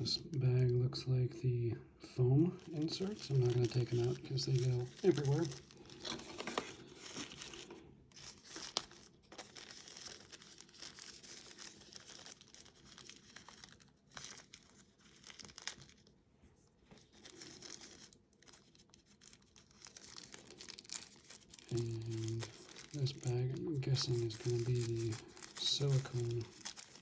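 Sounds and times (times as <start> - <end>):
plastic bags crinkling: 2.4 - 16.2, 16.8 - 27.0.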